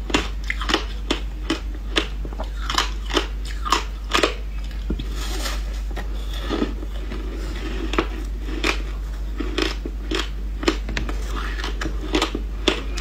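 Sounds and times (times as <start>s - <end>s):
ice crunching while chewed: 0.1s - 13.0s.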